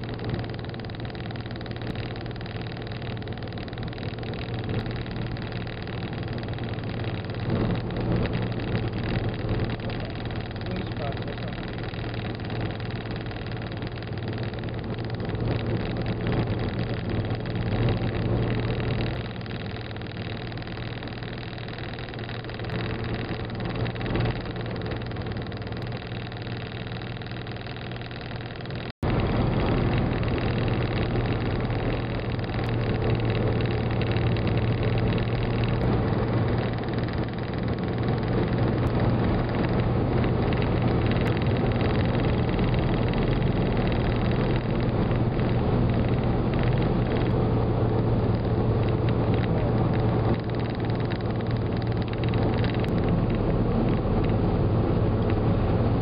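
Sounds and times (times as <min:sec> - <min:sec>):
car engine and road drone: 0:00.0 - 0:56.0.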